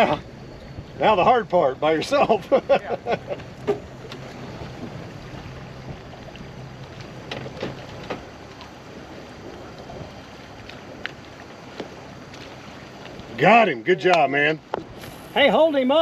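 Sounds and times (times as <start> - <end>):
low steady hum: 0.0 - 16.0
water lapping against boat: 0.0 - 16.0
wind: 0.0 - 16.0.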